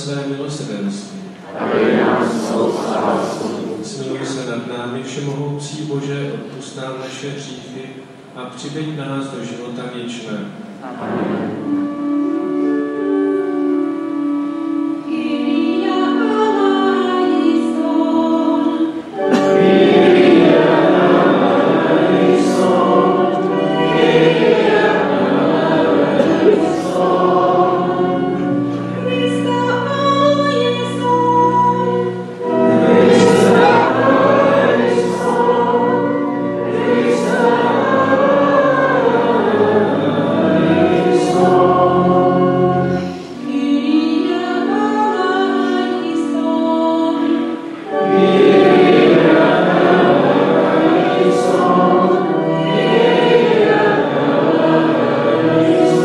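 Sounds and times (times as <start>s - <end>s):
congregation singing a hymn: 0.0s - 56.0s
organ chords: 0.0s - 56.0s.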